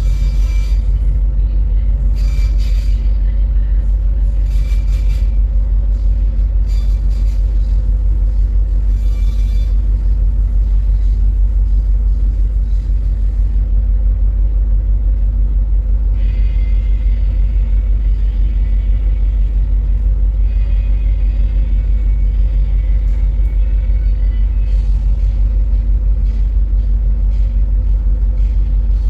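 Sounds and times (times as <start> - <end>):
faint steady hum: 0.0 - 29.0
loud low rumble: 0.0 - 29.0.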